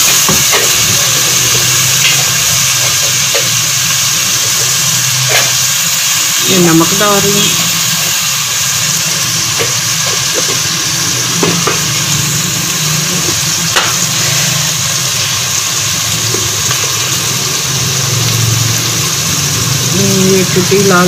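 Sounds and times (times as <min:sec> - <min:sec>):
masala sizzling in hot oil: 0:00.0 - 0:21.0.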